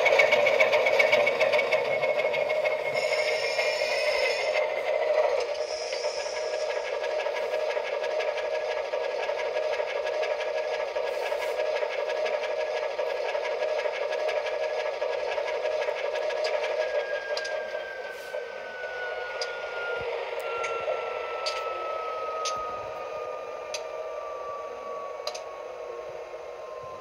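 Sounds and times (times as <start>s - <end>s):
faint high tone sliding down: 0.0s - 8.8s, 13.7s - 27.0s.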